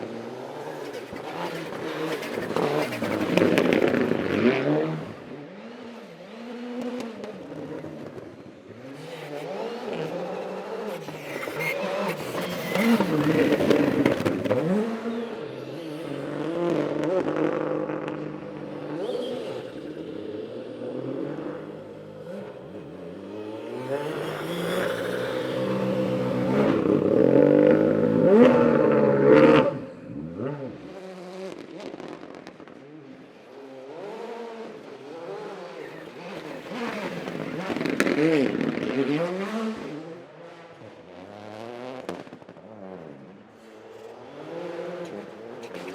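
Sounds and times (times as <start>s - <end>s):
rally car engines revving: 0.0s - 45.9s.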